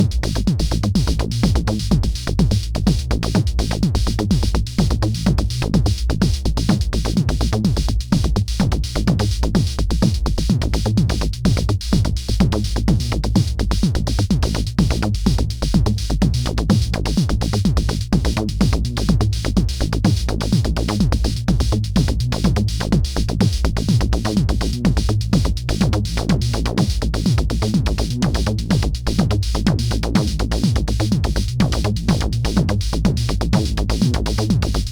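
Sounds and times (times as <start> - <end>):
drum machine beat: 0.0 - 34.9
heavy synth bass line: 0.0 - 34.9.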